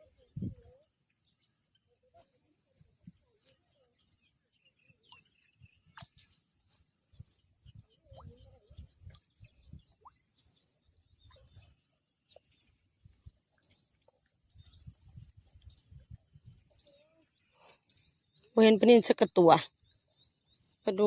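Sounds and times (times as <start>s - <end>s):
small bird chirps: 0.0s - 21.0s.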